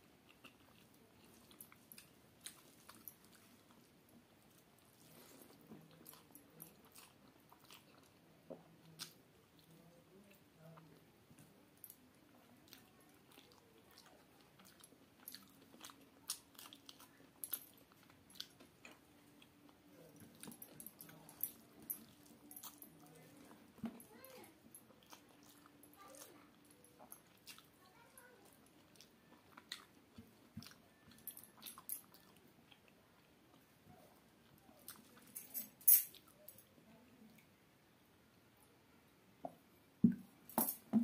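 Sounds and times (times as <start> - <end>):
person chewing food: 0.0 - 23.8, 24.8 - 27.8, 28.4 - 35.3.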